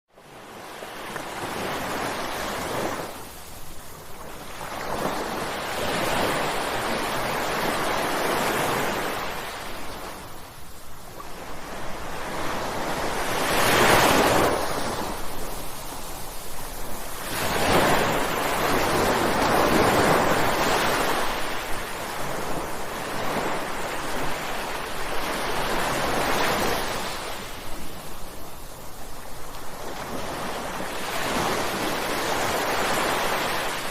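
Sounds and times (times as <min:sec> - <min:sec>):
ocean waves crashing: 0:00.2 - 0:33.9.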